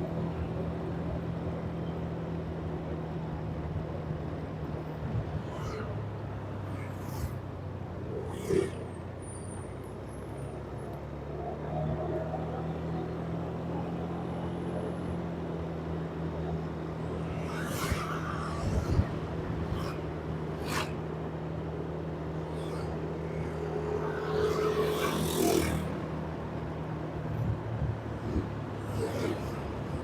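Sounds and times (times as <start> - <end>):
vehicle engine humming in traffic: 0.0 - 30.0.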